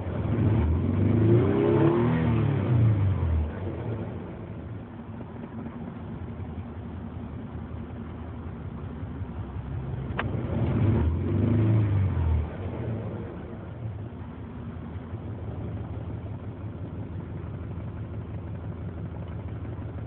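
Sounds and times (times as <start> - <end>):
car engine idling roughly and revving: 0.0 - 20.0.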